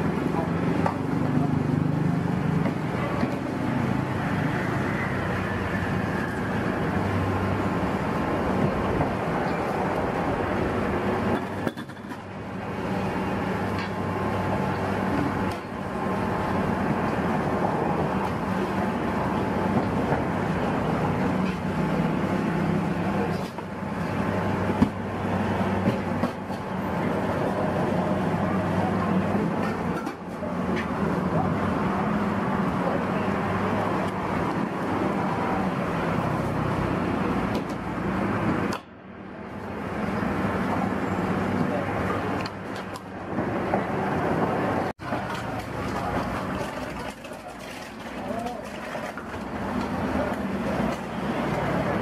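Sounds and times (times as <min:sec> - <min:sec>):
vehicle engines rumbling: 0:00.0 - 0:52.0.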